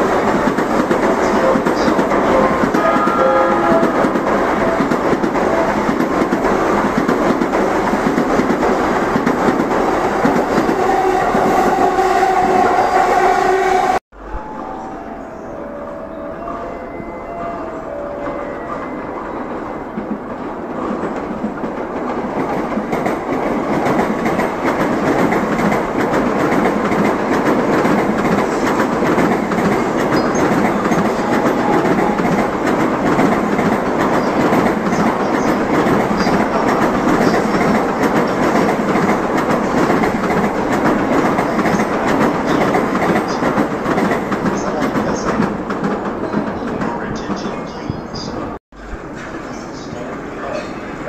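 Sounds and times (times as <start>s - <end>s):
high-speed train passing: 0.0s - 51.0s.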